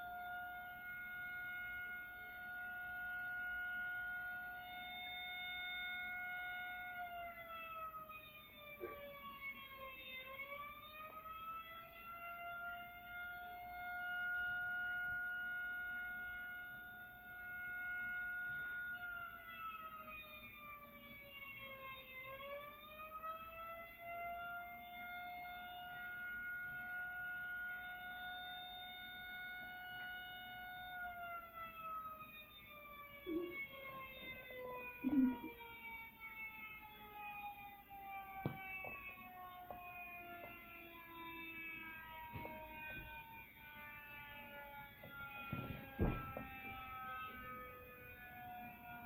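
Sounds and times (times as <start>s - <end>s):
tornado warning siren: 0.0s - 49.0s.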